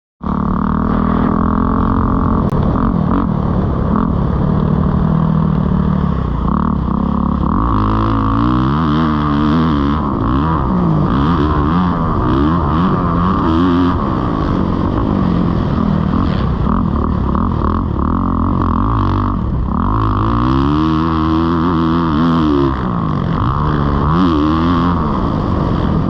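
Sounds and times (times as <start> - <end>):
motorbike engine revving: 0.2 - 26.0.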